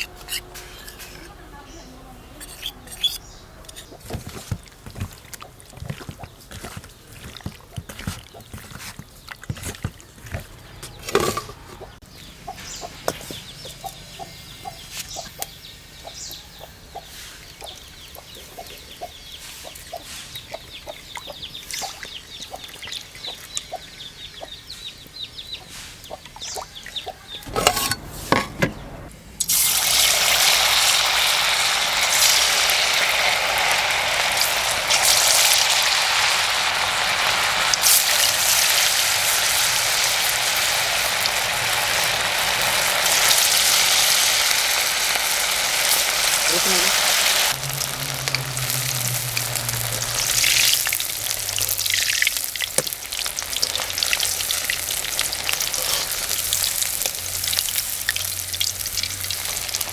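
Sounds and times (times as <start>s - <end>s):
chicken frying in hot oil: 3.8s - 28.1s, 29.4s - 59.9s.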